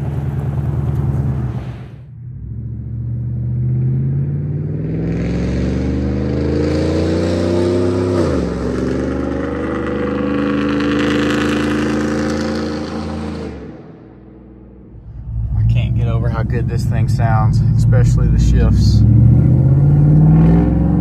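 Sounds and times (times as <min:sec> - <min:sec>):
v eight engine accelerating hard: 0:00.0 - 0:21.0.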